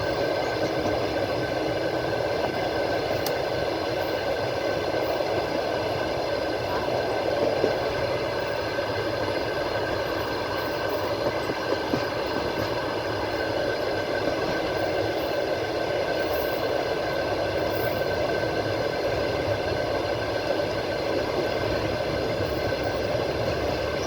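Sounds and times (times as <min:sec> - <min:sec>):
train rolling rumble: 0:00.0 - 0:24.0.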